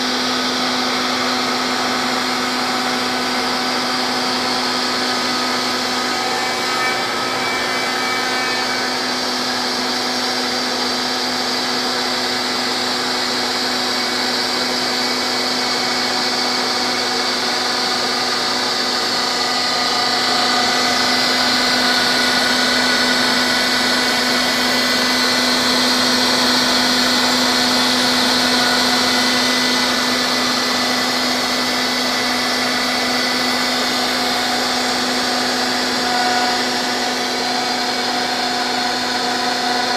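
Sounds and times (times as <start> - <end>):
dust collection vacuum: 0.0 - 39.9
router spindle whine: 0.0 - 39.9.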